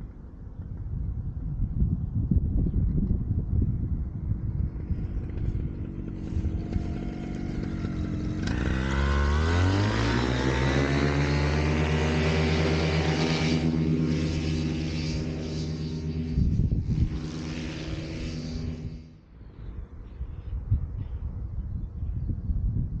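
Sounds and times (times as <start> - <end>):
paramotor engine and propeller: 0.0 - 22.5
wind buffeting on microphone: 0.0 - 23.0.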